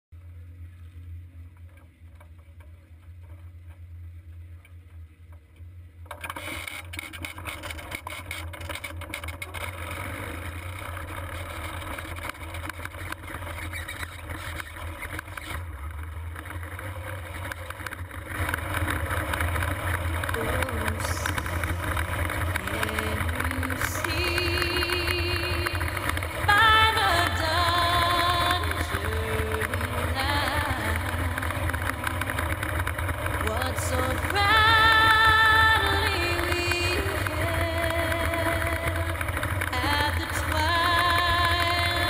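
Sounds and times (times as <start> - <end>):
race car engine idling: 0.2 - 42.0.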